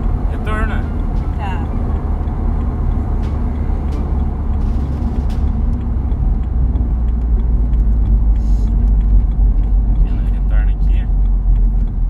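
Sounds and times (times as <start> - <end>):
car engine: 0.0 - 12.0
road noise: 0.0 - 12.0.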